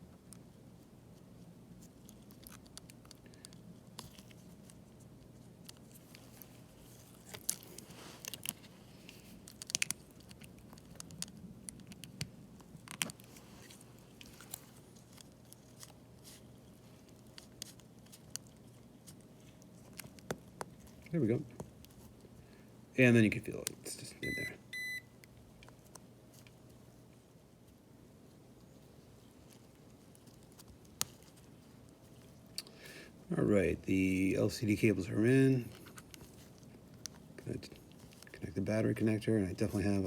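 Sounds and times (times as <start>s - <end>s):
faint steady hum: 0.0s - 40.0s
small clicks and scratches: 0.1s - 22.3s, 25.2s - 32.8s, 35.6s - 40.0s.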